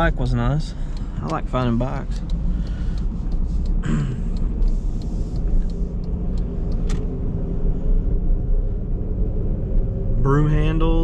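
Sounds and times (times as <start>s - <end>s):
car engine drone: 0.0s - 11.0s
road rumble: 0.0s - 11.0s.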